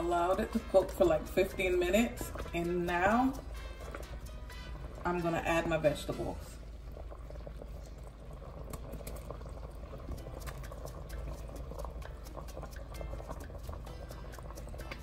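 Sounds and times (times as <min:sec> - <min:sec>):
sauce boiling with bubbling pops: 0:00.0 - 0:15.0.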